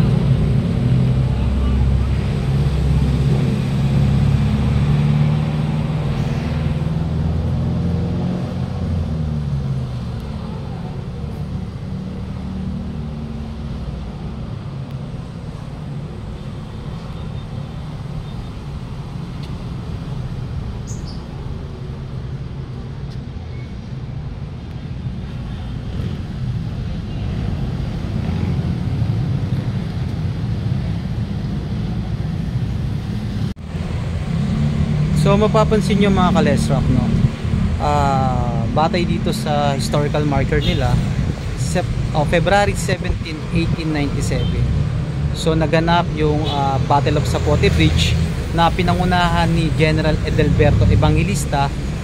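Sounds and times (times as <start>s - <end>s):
low traffic noise: 0.0s - 52.0s.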